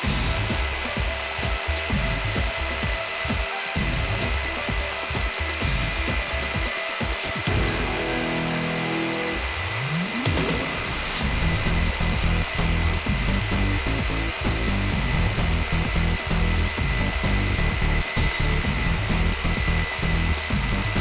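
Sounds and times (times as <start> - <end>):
rotary hammer drills into concrete: 0.0 - 7.5, 10.1 - 21.0.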